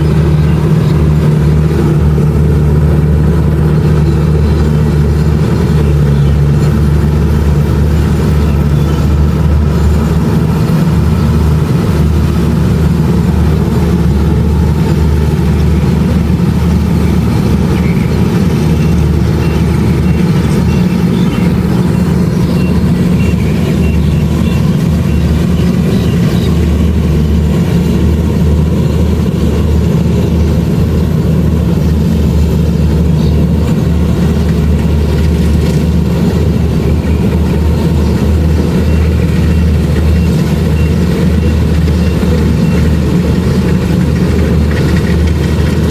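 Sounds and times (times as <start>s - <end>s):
combine harvester engine drone: 0.0s - 45.9s.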